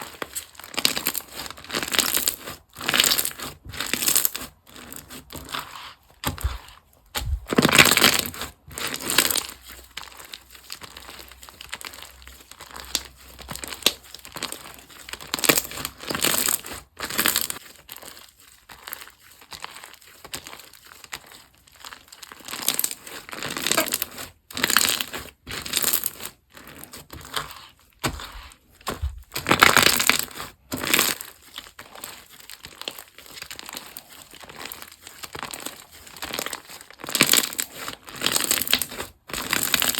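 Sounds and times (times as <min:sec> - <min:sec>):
slime squishing and crackling: 0:00.0 - 0:39.9.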